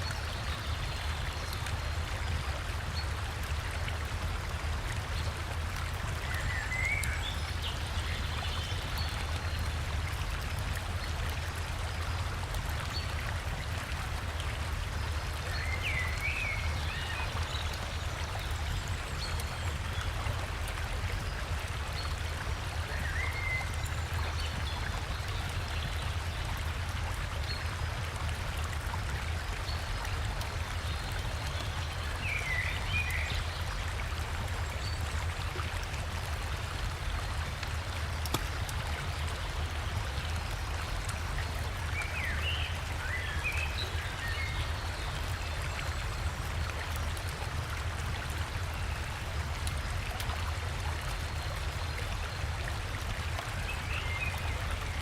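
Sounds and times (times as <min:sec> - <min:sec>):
river and waterfall rushing: 0:00.1 - 0:55.0.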